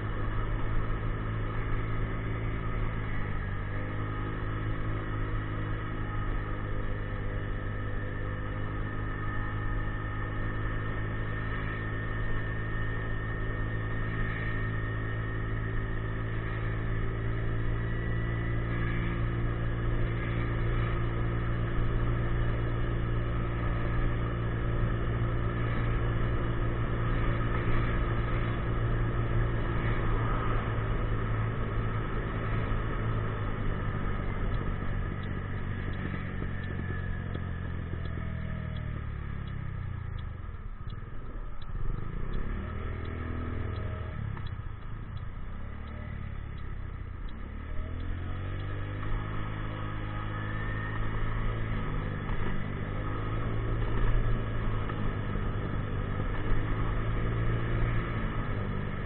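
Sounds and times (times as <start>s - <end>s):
scooter engine droning: 0.0s - 59.0s.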